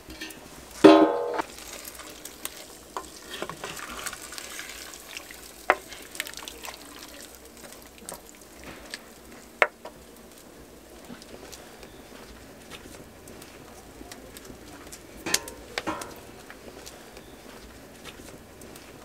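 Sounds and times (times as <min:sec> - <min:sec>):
stew simmering sizzle: 0:00.0 - 0:19.0
wooden spoon stirring beans: 0:00.0 - 0:19.0.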